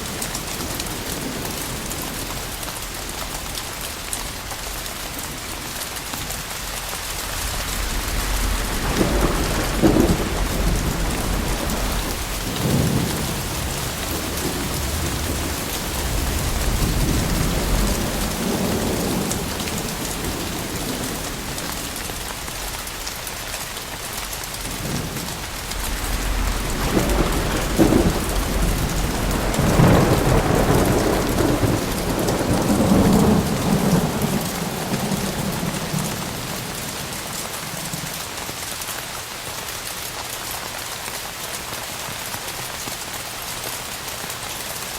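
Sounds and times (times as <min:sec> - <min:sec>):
thunder rumbling: 0:00.0 - 0:38.3
heavy rain: 0:00.0 - 0:44.9.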